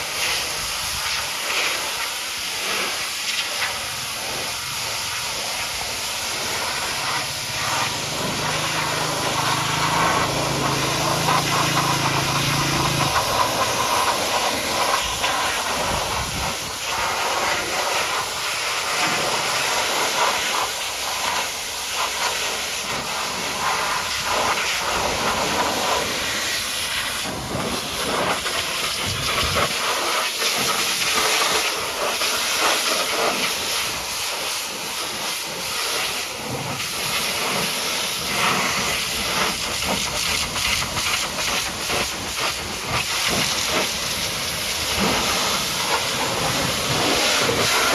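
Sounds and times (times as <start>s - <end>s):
pressure washer spraying: 0.0s - 47.9s.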